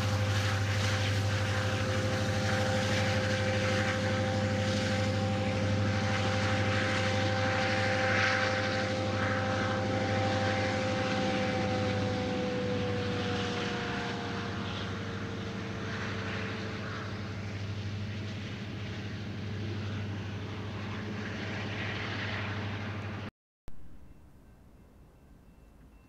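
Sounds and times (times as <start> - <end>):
diesel locomotive engine drone: 0.0 - 26.0
two-note whine: 0.0 - 26.0.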